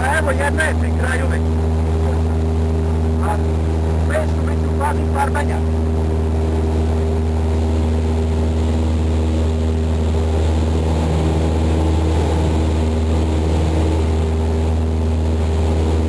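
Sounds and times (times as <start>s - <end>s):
light aircraft engine drone: 0.0s - 16.0s.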